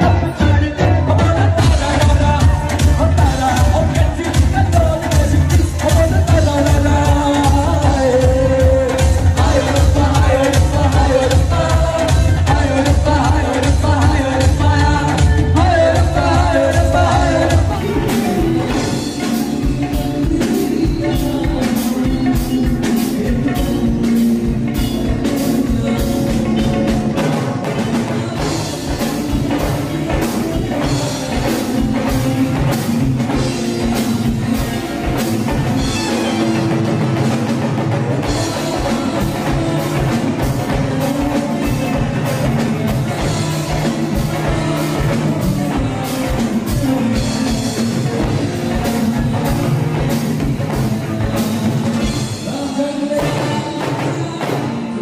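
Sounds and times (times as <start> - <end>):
drum kit beat: 0.0 - 55.0
man singing into microphone: 0.0 - 55.0.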